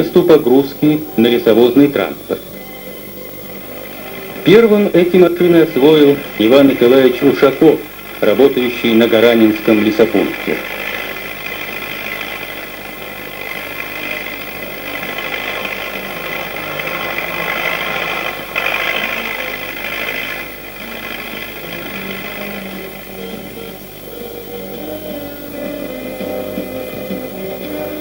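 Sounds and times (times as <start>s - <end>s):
tractor engine running: 0.0s - 24.4s.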